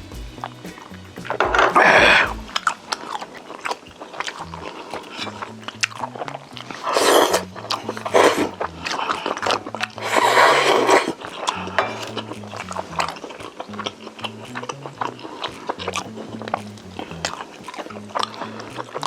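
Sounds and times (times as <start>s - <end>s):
soft background music with bass: 0.0s - 3.2s, 4.2s - 19.0s
mouth clicks: 0.0s - 19.0s.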